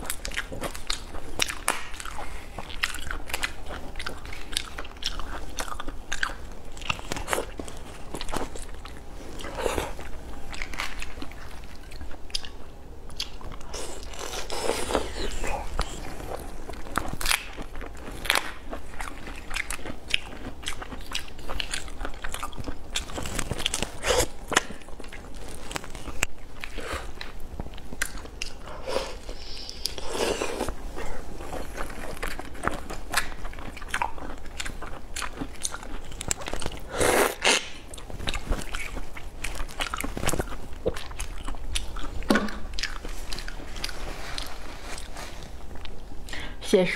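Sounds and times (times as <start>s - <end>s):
person chewing prawn: 0.0s - 46.5s.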